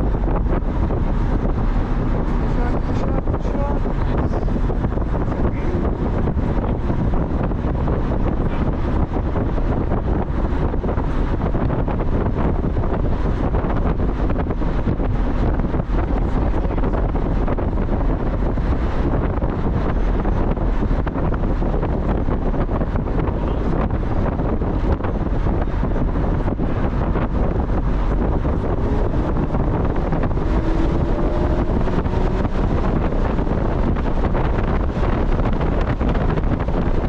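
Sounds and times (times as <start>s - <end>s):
road and engine noise: 0.0s - 37.0s
wind buffeting microphone: 0.0s - 37.0s.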